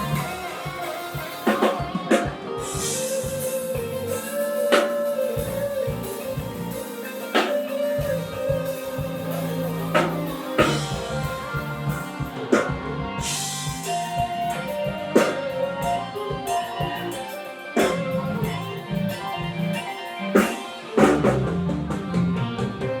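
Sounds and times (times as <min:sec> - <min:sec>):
heavy drum accents: 0:00.0 - 0:23.0
soul band playing: 0:00.0 - 0:23.0.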